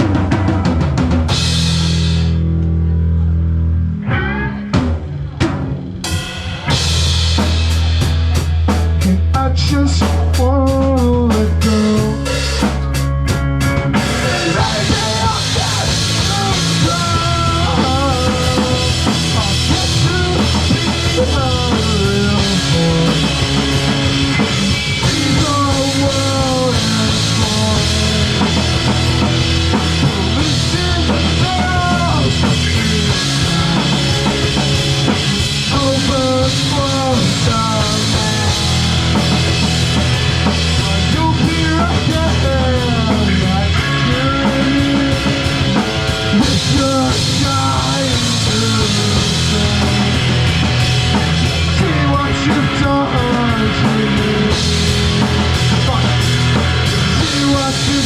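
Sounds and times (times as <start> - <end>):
drum kit: 0.0 - 3.3, 4.0 - 58.0
live rock band playing: 0.0 - 58.0.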